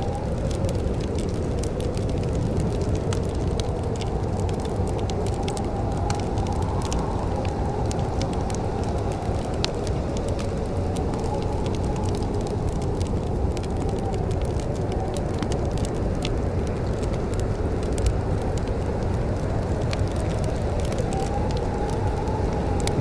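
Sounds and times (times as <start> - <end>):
fire crackling and popping: 0.0 - 23.0
fire low rumble: 0.0 - 23.0.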